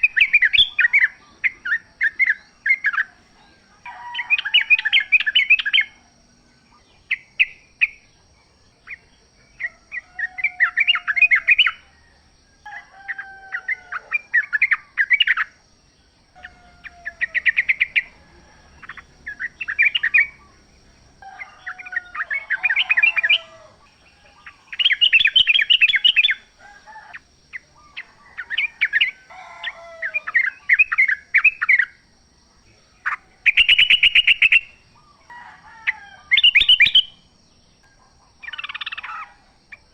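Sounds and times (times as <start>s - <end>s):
bird chattering song: 0.0s - 6.0s, 6.6s - 11.8s, 16.3s - 32.0s, 32.6s - 35.2s, 36.3s - 39.9s.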